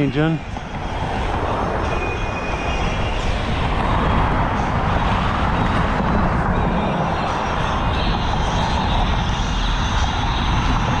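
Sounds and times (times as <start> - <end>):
tyre and road noise: 0.0 - 11.0
wind buffeting microphone: 0.0 - 11.0.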